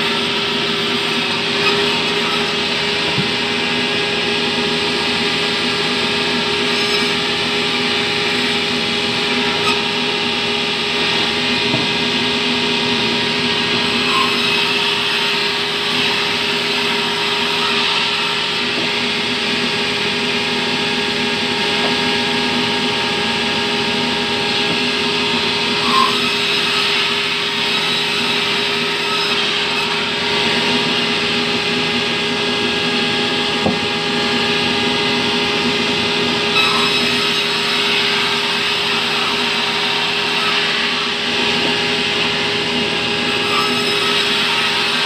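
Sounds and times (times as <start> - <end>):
band saw cutting log: 0.0 - 45.0.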